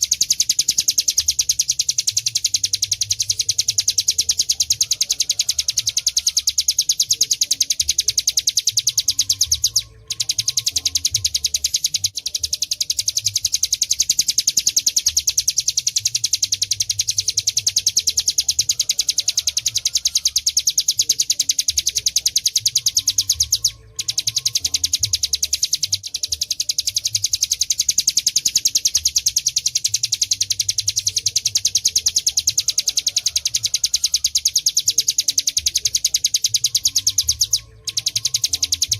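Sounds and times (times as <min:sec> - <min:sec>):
bird singing a rapid high trill: 0:00.0 - 0:38.9.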